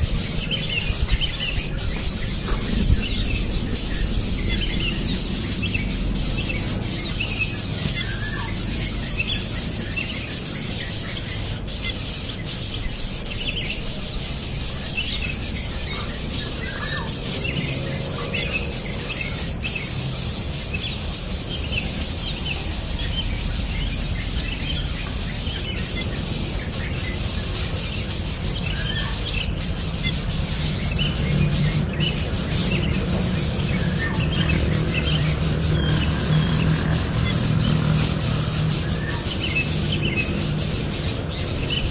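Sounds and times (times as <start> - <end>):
baby birds peeping: 0.0 - 41.9.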